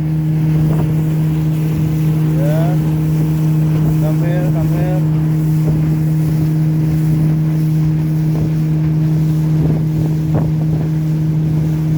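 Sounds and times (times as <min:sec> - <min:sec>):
outboard motor running: 0:00.0 - 0:11.9.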